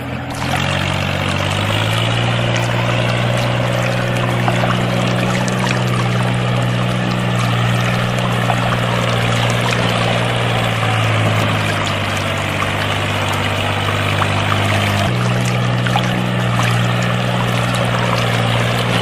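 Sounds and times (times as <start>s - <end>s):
pump humming: 0.0s - 19.0s
water pouring and splashing: 0.2s - 19.0s.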